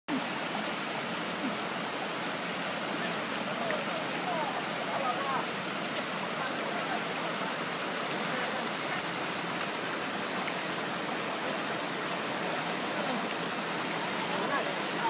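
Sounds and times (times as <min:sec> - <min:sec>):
creek water rushing into pool: 0:00.1 - 0:15.0.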